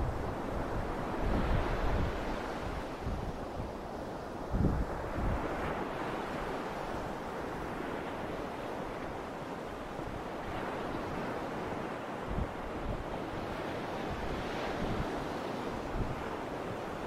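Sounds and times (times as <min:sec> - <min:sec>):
wind gust buffeting microphone: 0:00.0 - 0:08.9, 0:10.0 - 0:17.0.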